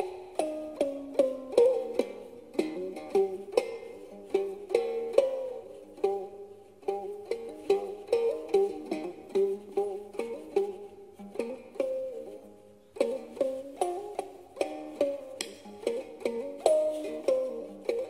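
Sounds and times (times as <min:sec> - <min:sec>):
plucked musical bow melody: 0:00.0 - 0:18.0.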